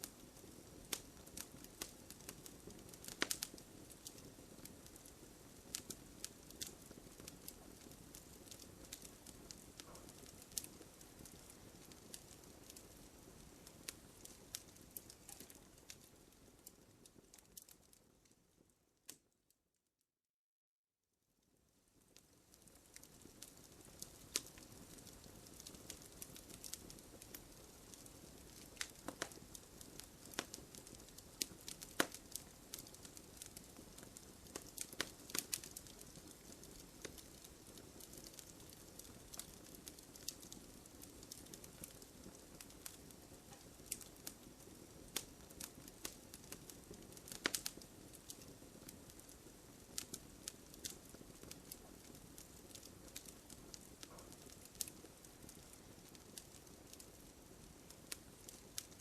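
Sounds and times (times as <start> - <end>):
campfire crackling and popping: 0.0 - 19.2, 21.5 - 59.0.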